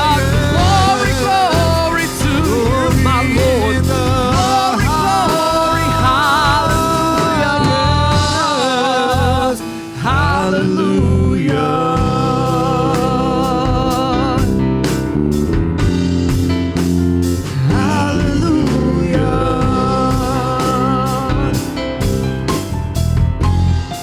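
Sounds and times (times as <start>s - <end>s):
band playing with steady beat: 0.0s - 10.6s, 11.4s - 24.0s
person singing with vibrato: 0.0s - 14.7s, 17.4s - 22.1s.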